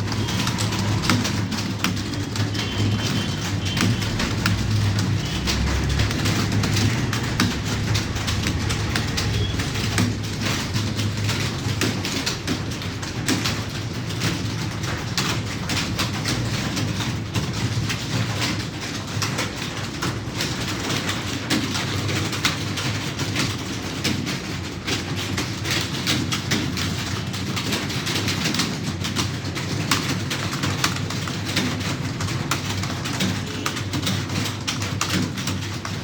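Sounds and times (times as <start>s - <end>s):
fast typing on keyboard: 0.0s - 36.0s.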